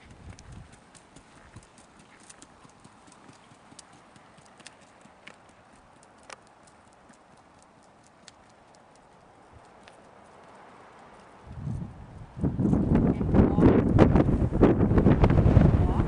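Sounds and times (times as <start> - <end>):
hooves clip-clopping: 0.0 - 15.1.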